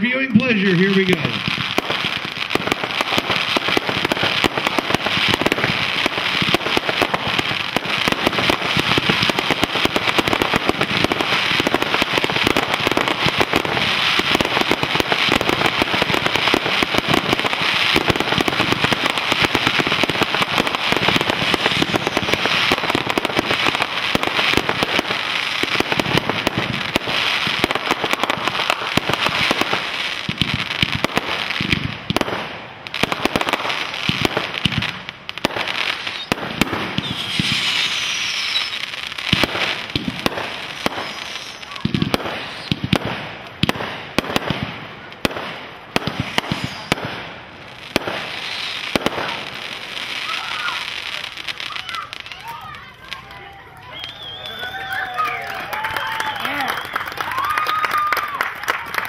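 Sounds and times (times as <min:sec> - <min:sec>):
fireworks bursts and crackling: 0:00.0 - 0:59.0.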